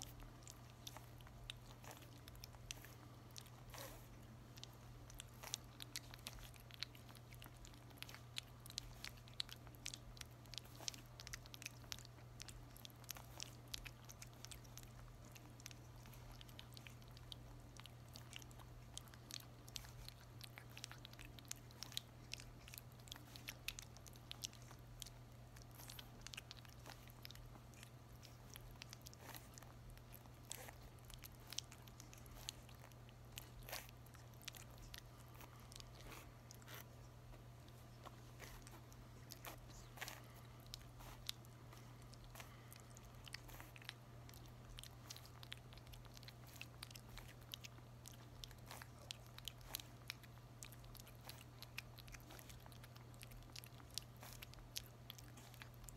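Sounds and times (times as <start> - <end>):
puppy licking wet smacking: 0.0 - 55.9.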